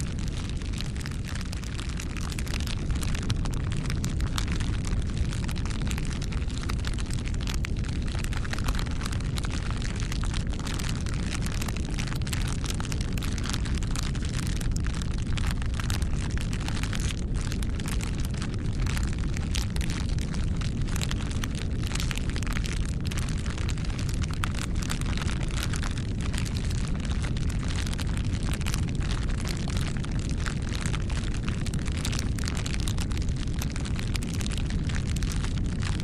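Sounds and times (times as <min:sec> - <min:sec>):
burning wood crackling: 0:00.0 - 0:36.0
fire flames rumbling: 0:00.0 - 0:36.0.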